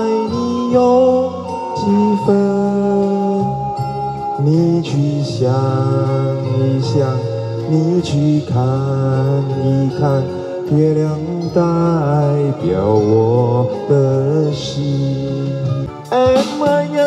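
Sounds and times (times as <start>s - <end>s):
karaoke music through speaker: 0.0s - 17.0s.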